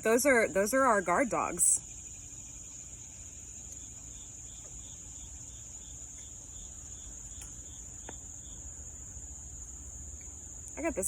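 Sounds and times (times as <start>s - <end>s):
faint insect chirp: 0.0s - 11.0s
high-pitched insect trill: 0.0s - 11.0s.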